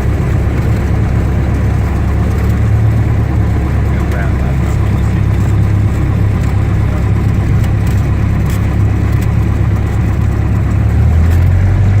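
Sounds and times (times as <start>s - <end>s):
aircraft piston engine drone: 0.0s - 12.0s.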